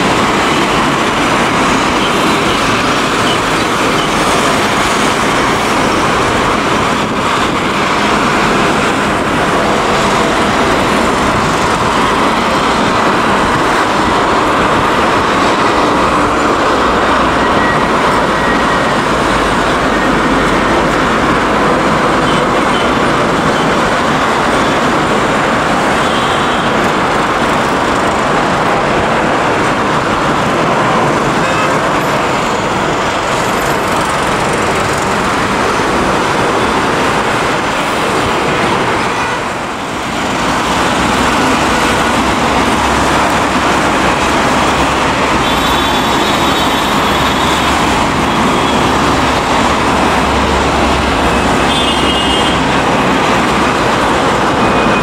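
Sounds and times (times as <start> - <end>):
jet airliner engine roar: 0.0 - 55.0.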